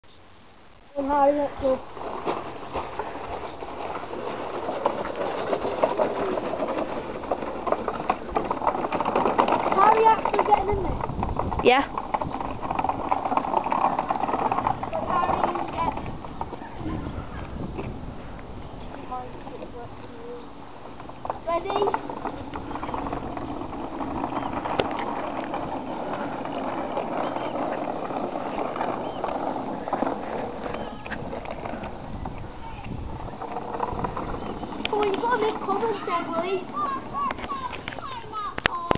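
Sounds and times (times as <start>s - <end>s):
wooden go-kart wheels rattling on gravel: 0.9s - 38.9s.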